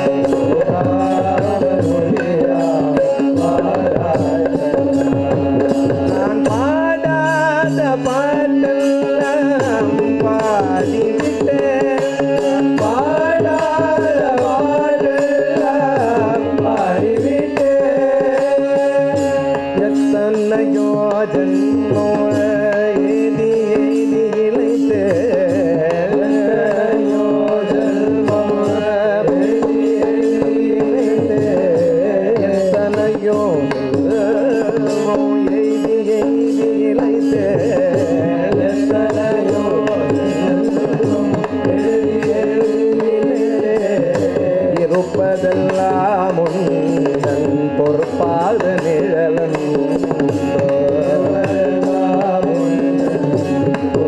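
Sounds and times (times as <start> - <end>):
harmonium drone: 0.0 - 54.0
man singing devotional song: 0.0 - 54.0.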